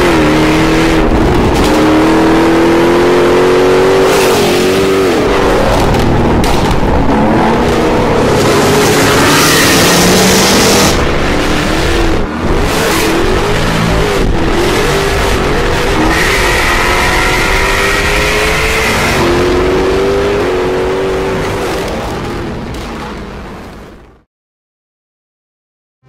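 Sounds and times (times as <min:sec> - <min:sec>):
car engine accelerating hard: 0:00.0 - 0:22.6.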